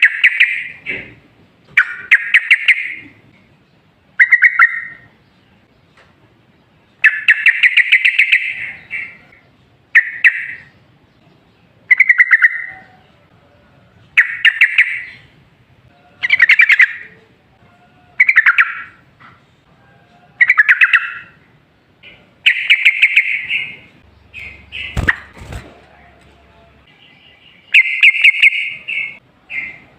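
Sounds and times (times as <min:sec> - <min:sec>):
bulbul singing: 0:00.0 - 0:01.1, 0:01.7 - 0:03.2, 0:04.2 - 0:05.8, 0:06.9 - 0:13.2, 0:14.1 - 0:17.4, 0:18.2 - 0:19.1, 0:20.4 - 0:29.9.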